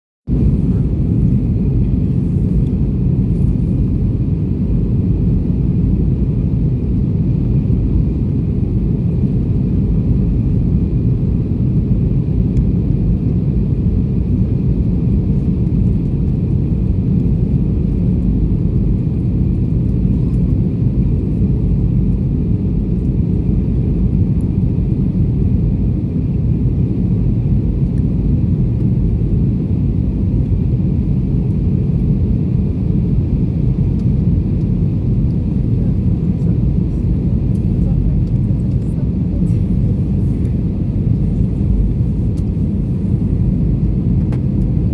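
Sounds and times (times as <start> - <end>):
jet engine rumble: 0.3 - 44.9.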